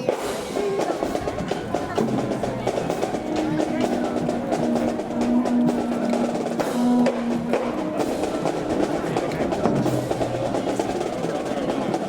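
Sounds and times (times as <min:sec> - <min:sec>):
marching band drum beat: 0:00.0 - 0:12.0
held low brass notes: 0:00.1 - 0:12.0.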